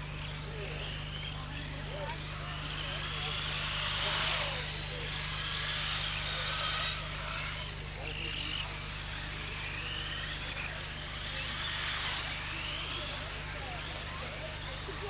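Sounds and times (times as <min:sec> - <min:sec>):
background chatter: 0:00.0 - 0:15.0
model buggy motors whining: 0:00.0 - 0:15.0
steady low hum: 0:00.0 - 0:15.0.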